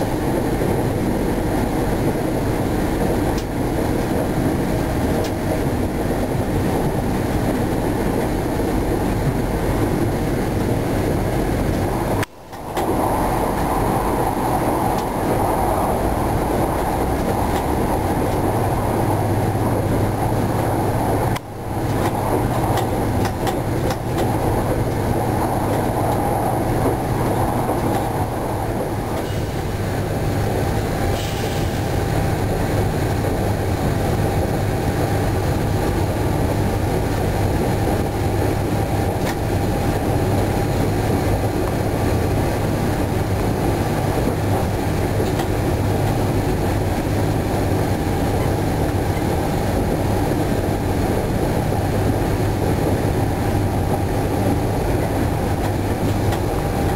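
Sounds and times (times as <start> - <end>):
low traction motor hum: 0.0 - 56.9
train wheels on rail: 0.0 - 56.9.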